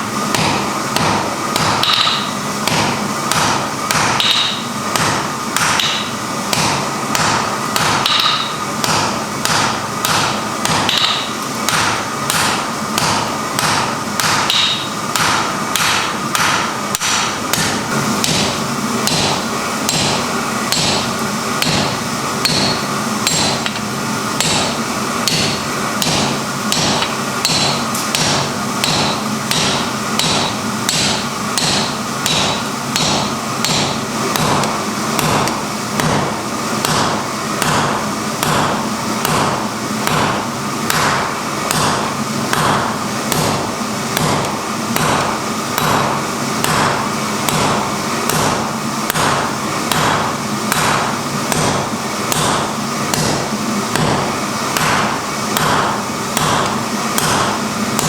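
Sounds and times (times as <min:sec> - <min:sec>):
steady hum: 0:00.0 - 0:58.0
hammer striking iron on anvil: 0:00.3 - 0:58.0.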